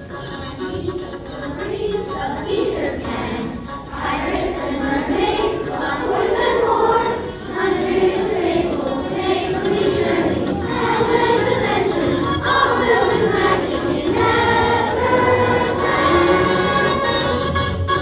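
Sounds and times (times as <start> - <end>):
children's choir singing: 0.0 - 17.7.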